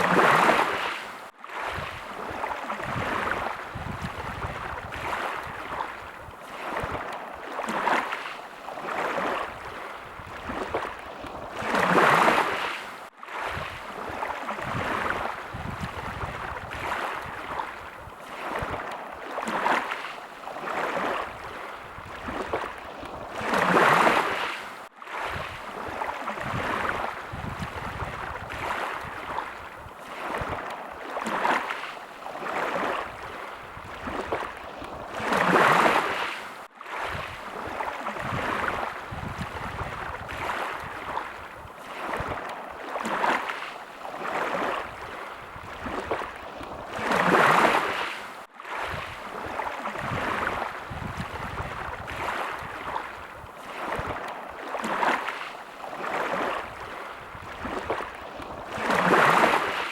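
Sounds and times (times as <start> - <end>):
waves lapping on shore: 0.0 - 59.9.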